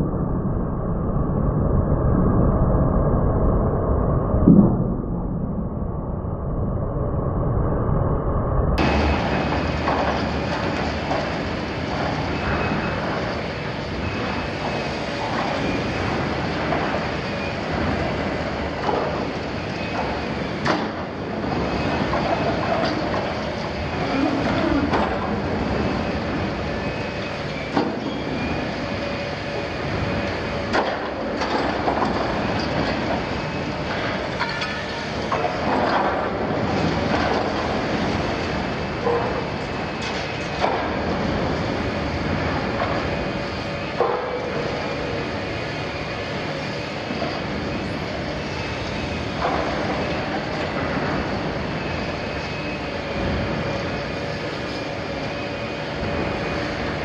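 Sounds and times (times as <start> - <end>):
diesel engine and hydraulics: 0.0 - 57.0.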